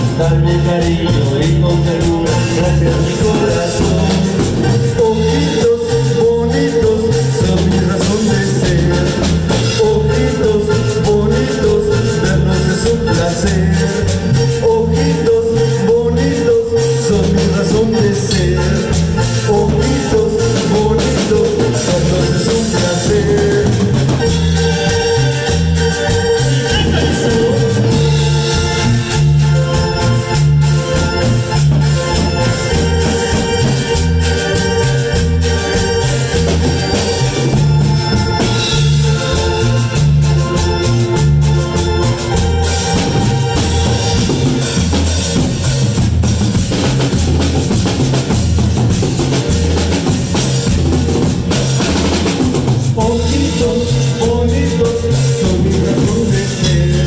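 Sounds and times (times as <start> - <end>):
drums: 0.0 - 57.0
organ-like keyboard melody: 0.0 - 57.0
repeating bass line: 0.0 - 57.0.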